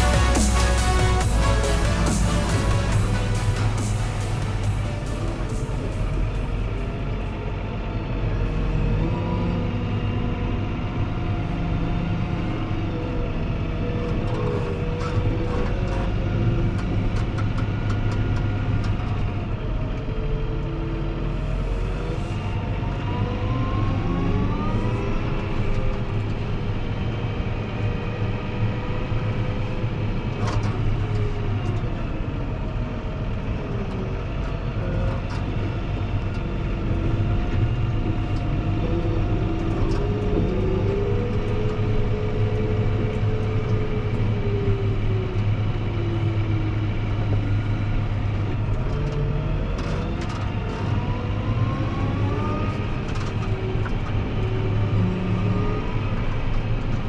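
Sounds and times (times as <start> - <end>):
tractor engine running with whine: 0.0 - 57.0.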